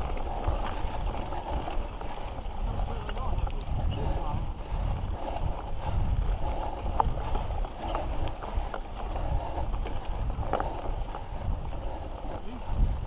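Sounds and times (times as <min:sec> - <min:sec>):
bike knocking and rattling: 0:00.0 - 0:13.0.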